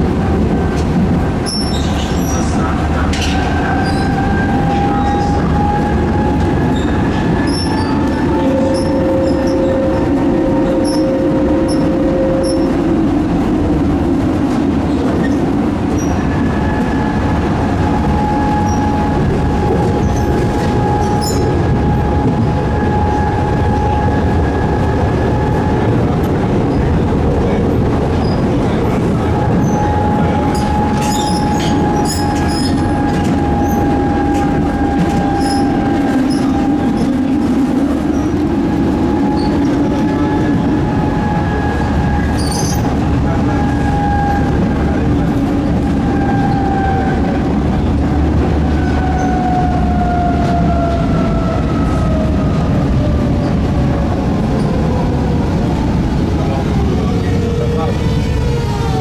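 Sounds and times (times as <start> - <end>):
tram wheels on rails: 0.0 - 59.0.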